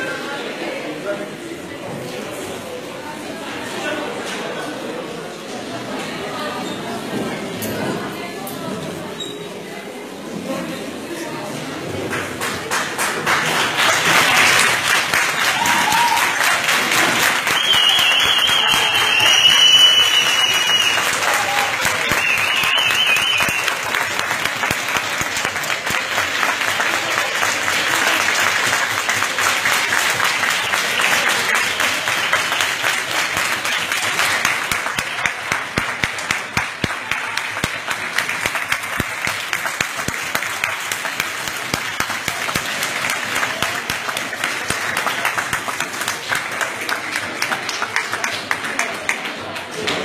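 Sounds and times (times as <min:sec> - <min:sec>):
crowd clapping in echoing hall: 0:00.0 - 0:08.6, 0:11.0 - 0:50.0.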